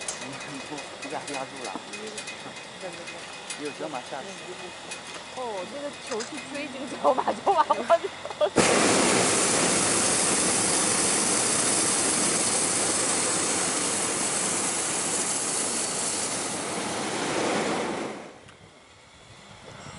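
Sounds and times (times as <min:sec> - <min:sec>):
propane burner blast: 0:00.0 - 0:05.4, 0:06.1 - 0:19.9.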